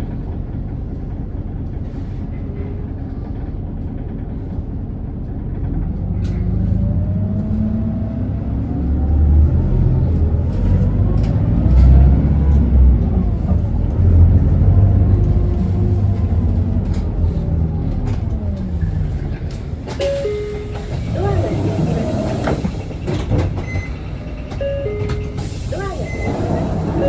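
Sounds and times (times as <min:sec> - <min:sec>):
diesel bus engine rumble: 0:00.0 - 0:27.0.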